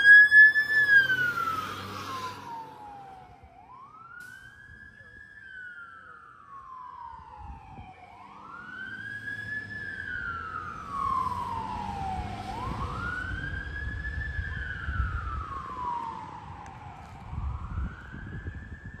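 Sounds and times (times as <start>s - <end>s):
electronic siren wailing: 0.0s - 19.0s.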